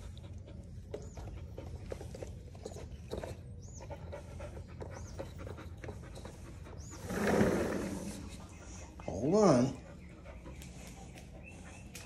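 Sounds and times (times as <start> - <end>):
dog panting: 0.0 - 7.1, 8.1 - 12.0.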